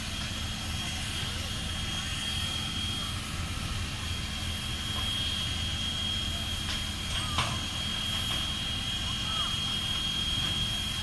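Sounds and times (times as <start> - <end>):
steam locomotive low rumble: 0.0 - 11.0.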